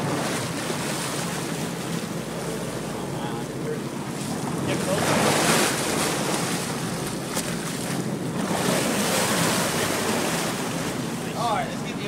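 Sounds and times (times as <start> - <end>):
boat engine hum: 0.0 - 12.0
sea water splashing against hull: 0.0 - 12.0.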